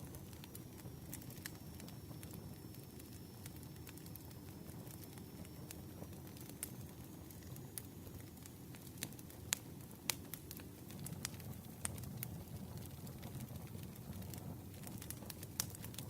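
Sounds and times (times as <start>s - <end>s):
campfire crackling and popping: 0.0s - 16.0s
low fire rustle: 0.0s - 16.0s.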